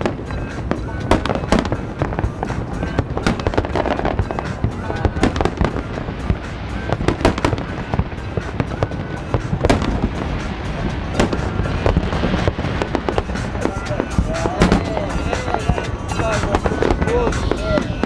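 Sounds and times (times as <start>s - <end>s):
fireworks bangs: 0.0s - 18.0s
fireworks pops and crackles: 0.0s - 18.0s.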